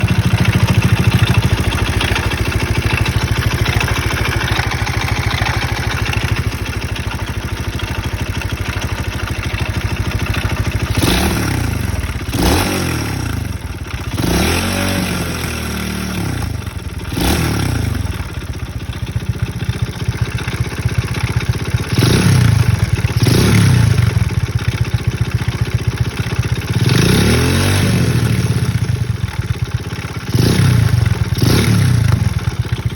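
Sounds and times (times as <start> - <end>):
moped engine idling and revving: 0.0 - 32.9.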